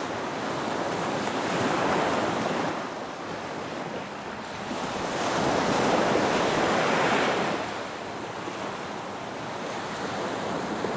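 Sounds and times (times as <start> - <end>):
ocean waves breaking on beach: 0.0 - 10.9.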